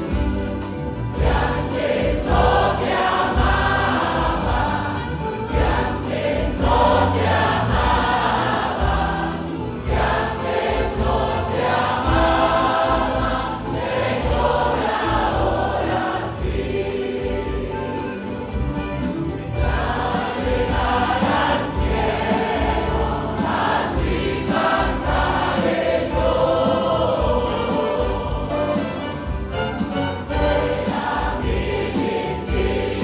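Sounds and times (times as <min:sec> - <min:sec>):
choir singing a hymn: 0:00.0 - 0:33.0
low instrumental accompaniment: 0:00.0 - 0:33.0.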